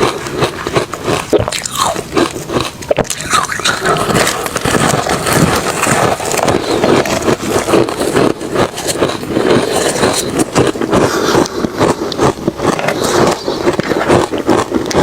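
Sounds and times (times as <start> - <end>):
ice crunching being chewed: 0.0 - 15.0.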